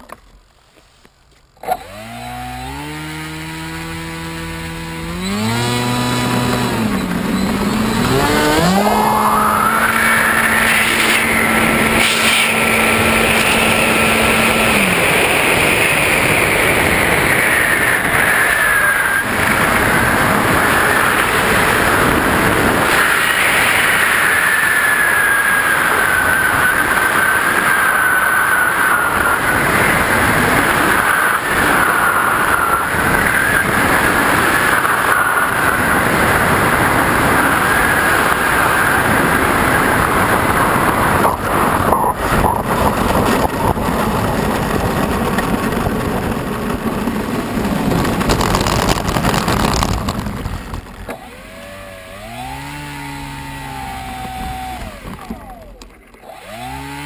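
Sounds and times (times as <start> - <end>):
model plane motor whine: 1.6 - 57.0
wind rush on microphone: 2.8 - 57.0.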